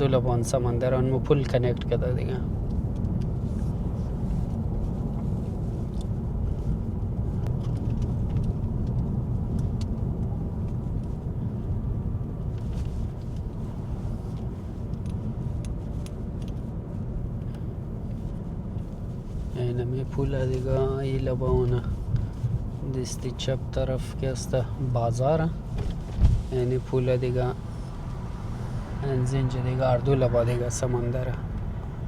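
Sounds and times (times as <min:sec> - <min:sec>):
road and engine noise in car: 0:00.0 - 0:32.0.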